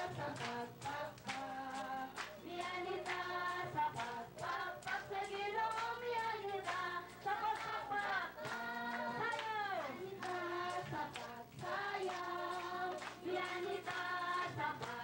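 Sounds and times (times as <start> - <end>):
congregation singing: 0.0 - 15.0
people clapping in time: 0.0 - 15.0.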